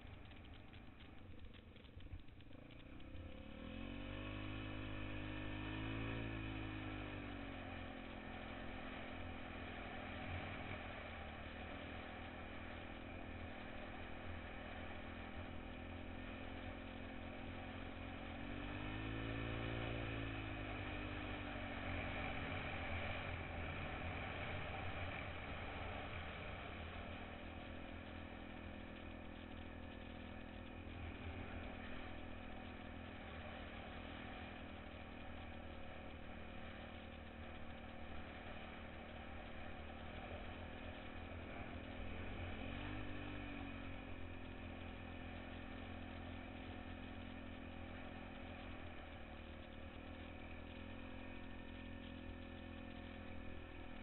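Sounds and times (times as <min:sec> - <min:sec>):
off-road vehicle engine revving: 0:02.6 - 0:10.6, 0:16.2 - 0:26.2, 0:27.1 - 0:54.0.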